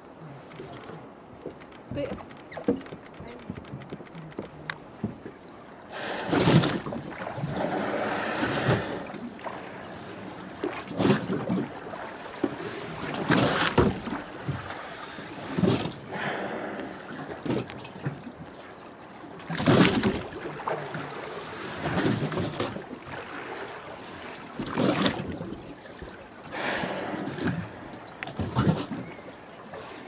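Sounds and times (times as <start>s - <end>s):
water noise: 0.0s - 30.0s
wind: 0.0s - 30.0s.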